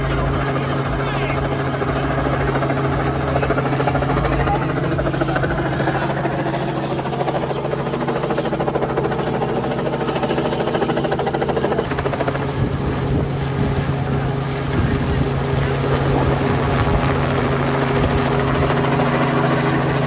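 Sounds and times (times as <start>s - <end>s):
helicopter rotor beating: 0.0s - 20.0s.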